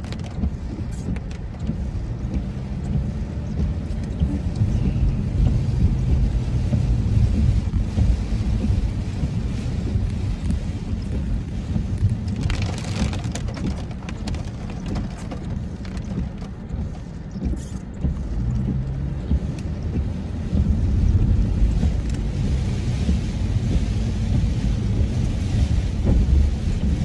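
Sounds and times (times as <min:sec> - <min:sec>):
engine and tyres on wet road: 0:00.0 - 0:27.0
rain hiss: 0:00.0 - 0:27.0.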